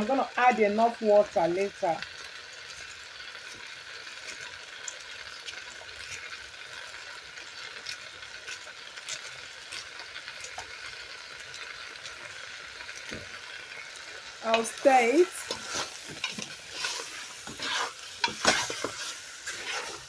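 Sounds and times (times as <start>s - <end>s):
chicken and onion sizzling: 0.0s - 20.0s.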